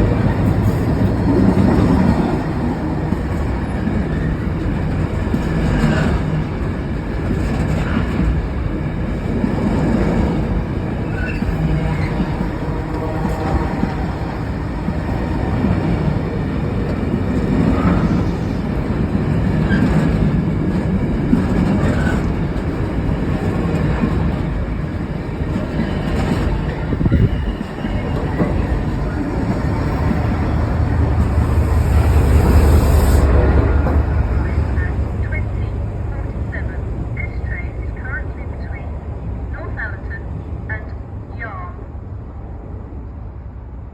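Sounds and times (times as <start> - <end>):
train wheel clatter: 0.0 - 35.7
freight train rumbling past: 0.0 - 43.9.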